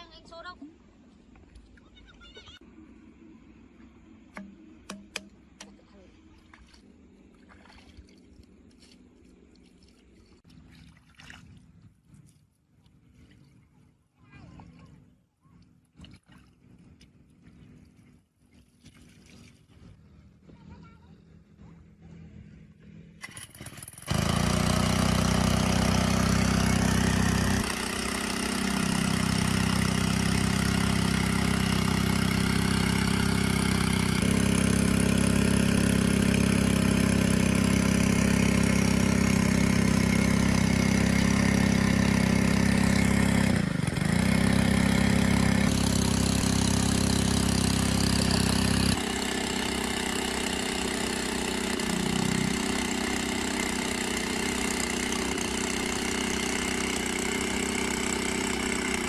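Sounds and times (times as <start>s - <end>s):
water pump engine running: 3.9s - 59.0s.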